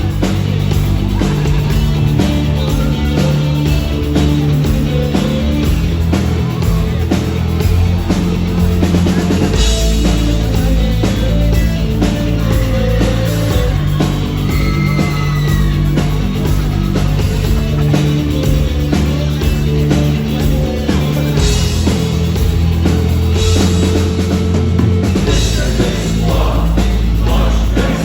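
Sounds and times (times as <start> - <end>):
bass guitar: 0.0 - 28.0
drum kit: 0.0 - 28.0
rock band playing: 0.0 - 28.0.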